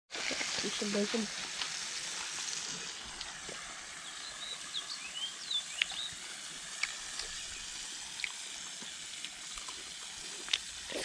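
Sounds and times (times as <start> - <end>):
bacon sizzling in a pan: 0.1 - 11.0.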